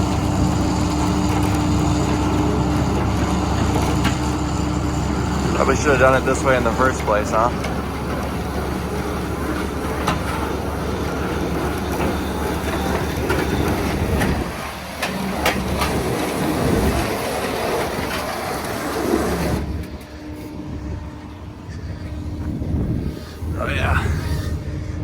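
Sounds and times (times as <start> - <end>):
tracks clanking on steel deck: 0.0 - 22.6
snowcat engine hum: 0.0 - 25.0.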